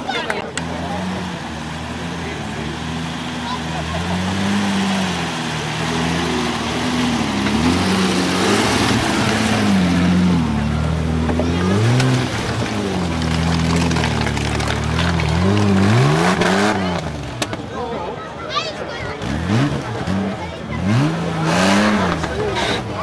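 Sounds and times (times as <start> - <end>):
off-road vehicle engine revving: 0.0 - 18.3, 19.0 - 23.0.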